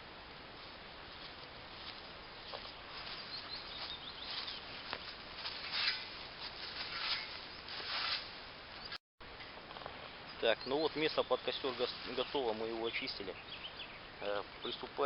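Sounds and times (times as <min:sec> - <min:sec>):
dry leaves and twigs rustling: 0:00.5 - 0:09.0, 0:09.6 - 0:13.5.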